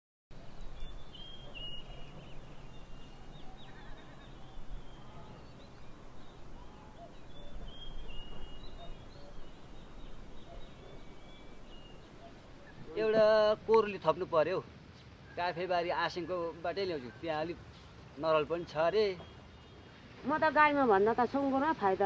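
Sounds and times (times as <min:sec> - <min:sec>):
birds chirping: 0:00.3 - 0:22.0
low outdoor background: 0:00.3 - 0:22.0.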